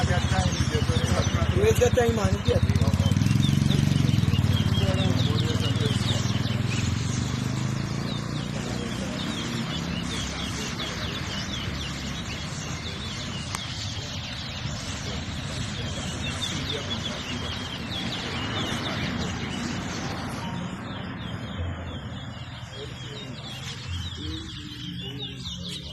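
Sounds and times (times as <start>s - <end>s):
finch singing high chirps: 0.0s - 25.9s.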